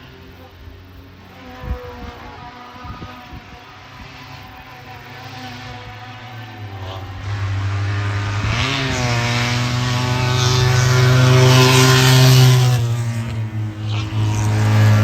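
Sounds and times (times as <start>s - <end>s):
race car engine under load: 0.0s - 15.0s.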